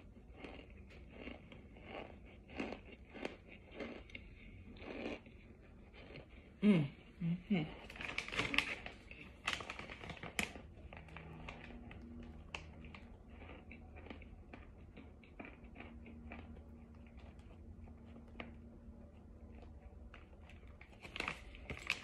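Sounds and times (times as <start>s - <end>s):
chewing crunchy cornstarch: 0.0s - 7.0s, 7.7s - 22.0s.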